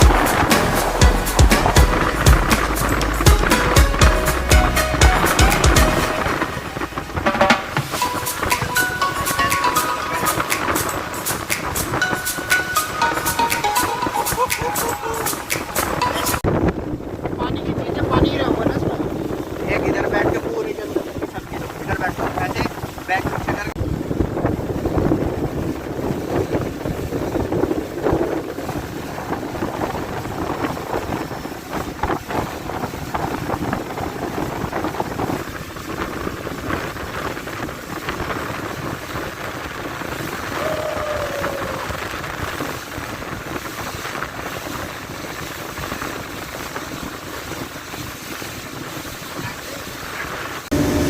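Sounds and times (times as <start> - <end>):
wind buffeting microphone: 0.0 - 13.4, 14.0 - 51.0
speedboat engine and water rush: 0.0 - 51.0.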